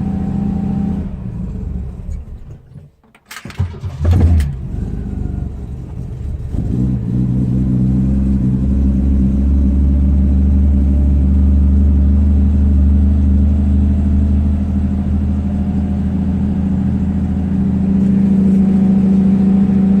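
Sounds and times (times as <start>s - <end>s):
car engine idling: 3.6s - 20.0s.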